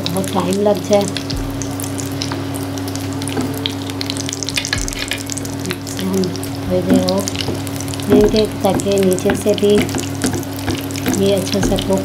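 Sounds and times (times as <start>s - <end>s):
kababs sizzling in hot oil: 0.0s - 12.0s
oil crackling and popping: 0.0s - 12.0s.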